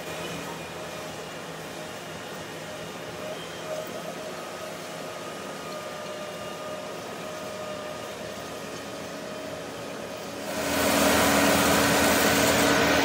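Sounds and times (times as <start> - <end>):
faint high whine: 0.0 - 13.0
wheel loader snowblower running: 0.0 - 13.0.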